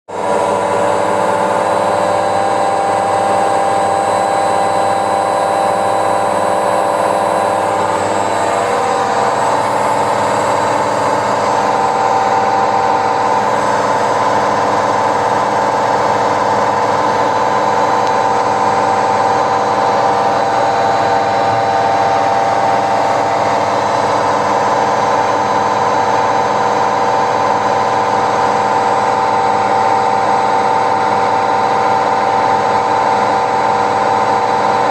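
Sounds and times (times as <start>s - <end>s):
washing machine mechanical whine: 0.1s - 34.9s.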